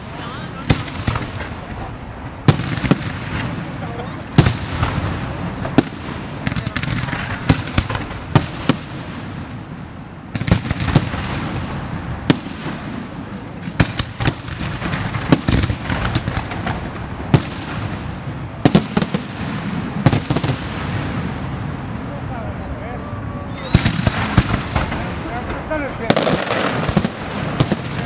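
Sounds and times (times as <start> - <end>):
continuous fireworks crackling: 0.0 - 28.0.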